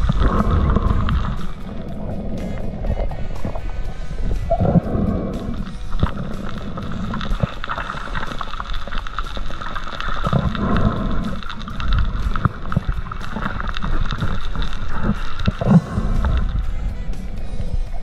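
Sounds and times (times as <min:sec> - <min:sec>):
dense crackling clicks underwater: 0:00.0 - 0:18.0
low rushes of moving water: 0:00.0 - 0:18.0
steady hum: 0:00.0 - 0:18.0.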